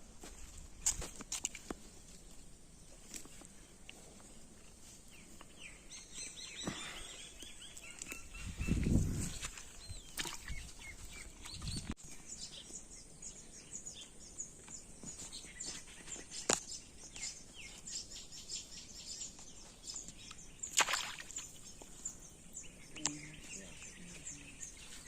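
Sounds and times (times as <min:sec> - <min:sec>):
small birds chirping: 0:00.8 - 0:25.0.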